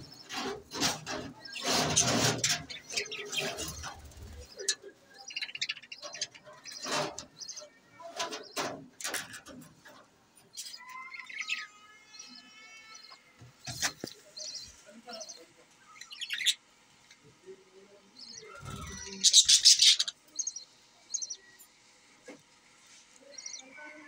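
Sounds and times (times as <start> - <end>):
budgerigars chirping and squawking: 0.0 - 12.3, 12.9 - 16.7, 18.1 - 21.7, 23.3 - 24.0.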